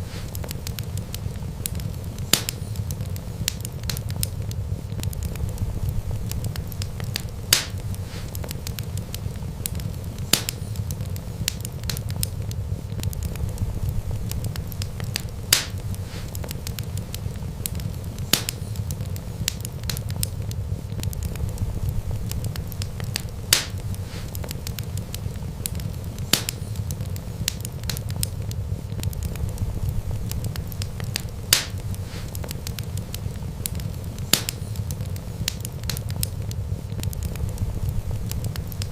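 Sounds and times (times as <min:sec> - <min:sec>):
fire pops: 0:00.0 - 0:38.9
low rush of flames: 0:00.0 - 0:38.9
wood fire crackling: 0:00.0 - 0:38.9.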